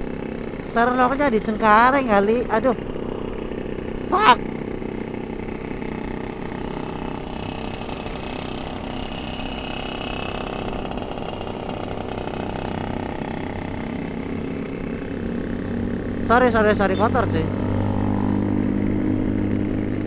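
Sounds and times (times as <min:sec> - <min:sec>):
two-stroke motorcycle engine running: 0:00.0 - 0:20.0.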